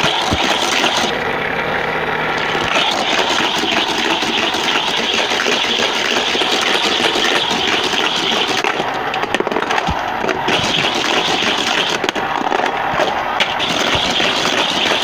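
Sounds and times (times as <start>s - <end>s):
small motor whirring: 0.0s - 15.0s.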